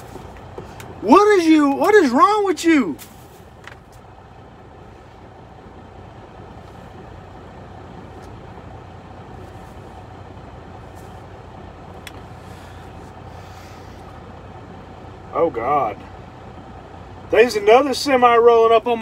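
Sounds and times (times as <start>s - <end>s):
truck engine hum from cab: 0.0s - 19.0s.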